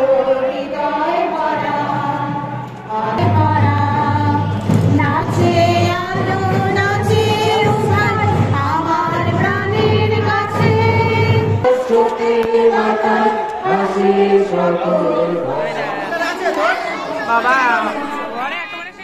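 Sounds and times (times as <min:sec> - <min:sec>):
women singing together: 0:00.0 - 0:18.5.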